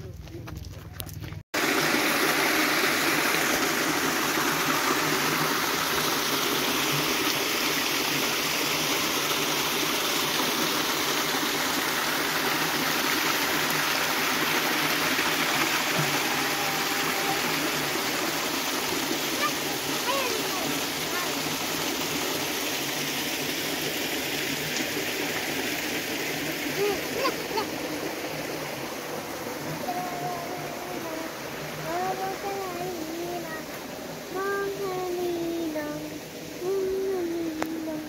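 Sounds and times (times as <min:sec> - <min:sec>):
stream water flowing: 0:01.6 - 0:38.0.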